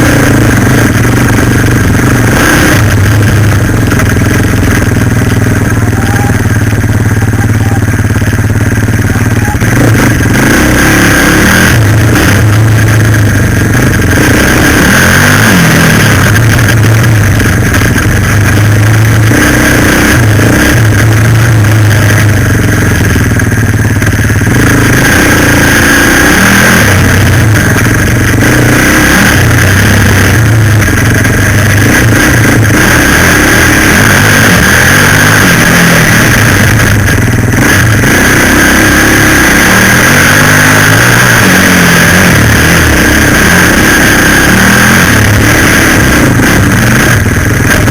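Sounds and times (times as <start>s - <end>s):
quad bike engine revving: 0.0s - 47.9s
steady high whine: 0.0s - 47.9s.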